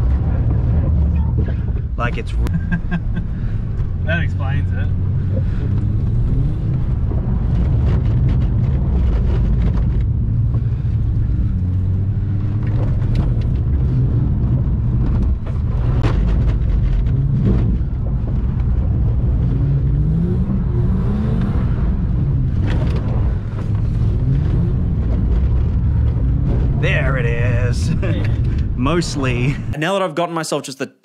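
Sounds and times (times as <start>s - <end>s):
car engine revving: 0.0s - 29.7s.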